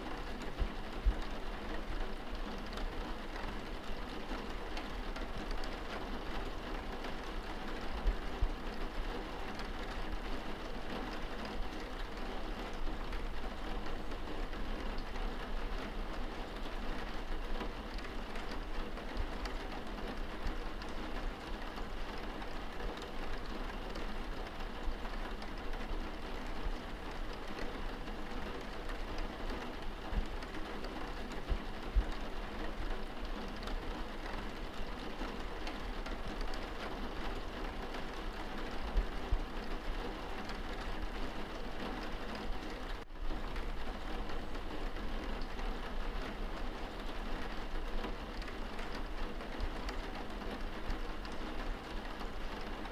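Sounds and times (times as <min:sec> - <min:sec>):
rain drumming on a window: 0:00.0 - 0:52.9.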